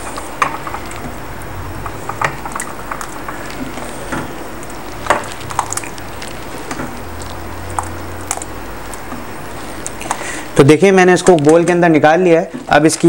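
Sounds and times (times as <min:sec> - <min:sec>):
soup pouring into bowl: 0:00.0 - 0:10.6
steady low hum: 0:00.0 - 0:10.9.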